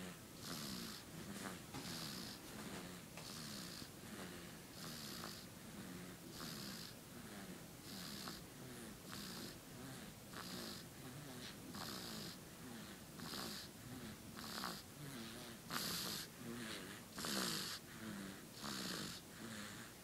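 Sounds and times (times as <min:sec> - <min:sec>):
baby snoring faintly: 0:00.0 - 0:20.0.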